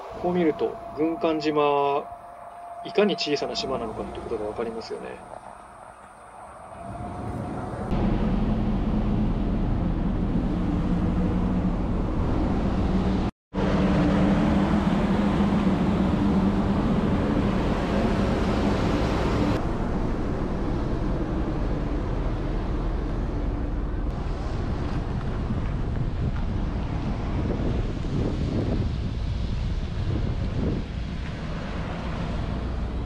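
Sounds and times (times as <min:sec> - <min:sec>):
ferry engine humming: 0:00.0 - 0:33.0
water noise: 0:00.0 - 0:33.0
wind: 0:00.0 - 0:33.0.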